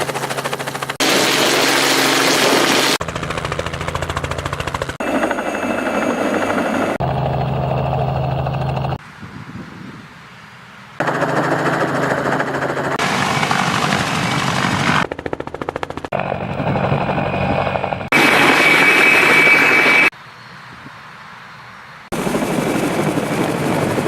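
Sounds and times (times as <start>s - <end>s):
helicopter engine and rotor: 0.0s - 9.0s, 11.0s - 20.1s, 22.1s - 24.0s.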